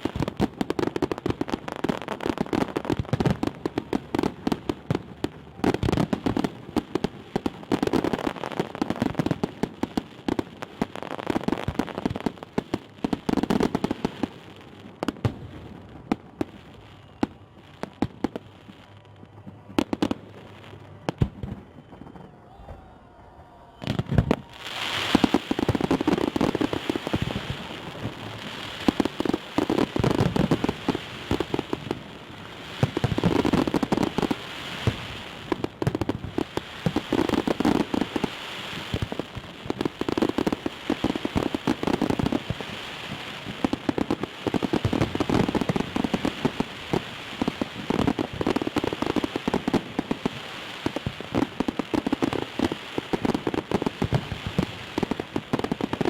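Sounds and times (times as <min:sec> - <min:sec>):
fireworks crackling pops: 0:00.0 - 0:22.3, 0:23.8 - 0:56.0.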